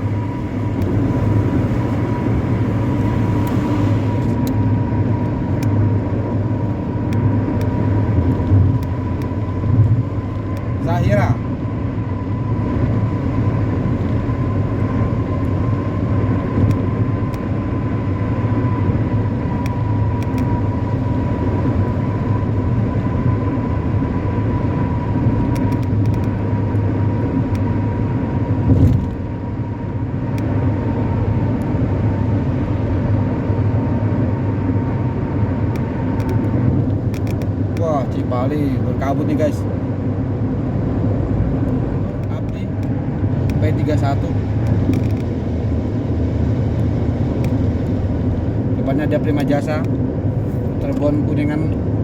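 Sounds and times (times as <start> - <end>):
engine and road rumble: 0.0 - 52.0
steady high whine: 0.0 - 52.0.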